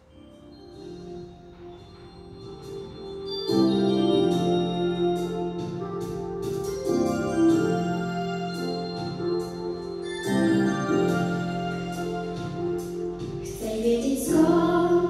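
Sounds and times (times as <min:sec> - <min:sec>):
organ-like keyboard chords: 0:00.0 - 0:15.0
crisp ticking beat: 0:00.6 - 0:13.7.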